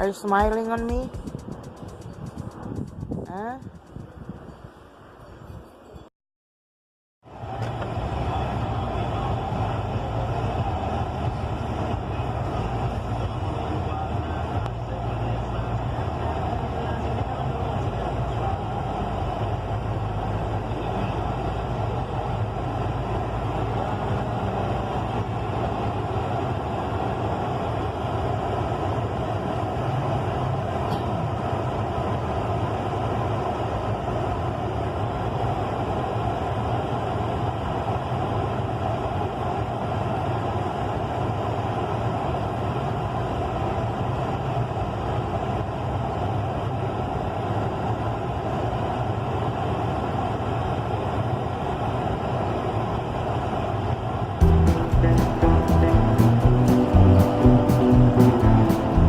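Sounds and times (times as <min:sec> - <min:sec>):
steady engine drone: 0:00.0 - 0:04.4, 0:07.3 - 0:59.0.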